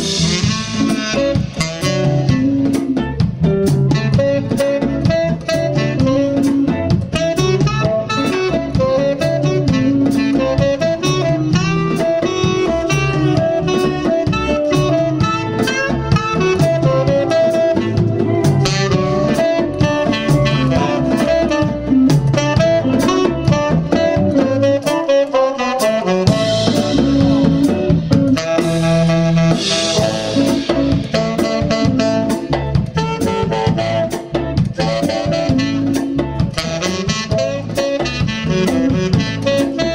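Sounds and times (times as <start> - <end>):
live blues band playing: 0.0 - 39.9
saxophone solo: 0.0 - 39.9.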